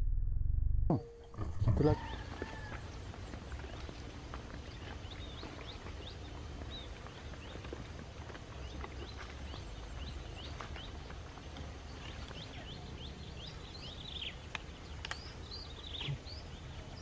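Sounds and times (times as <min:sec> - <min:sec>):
low outdoor rumble: 0:00.0 - 0:17.0
flock of small birds chirping: 0:01.8 - 0:17.0.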